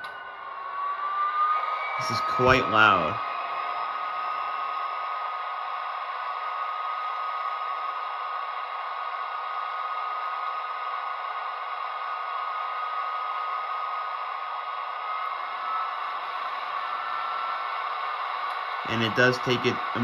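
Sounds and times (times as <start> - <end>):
high steady whine: 0.0 - 20.0
model train braking fan rush: 0.0 - 20.0.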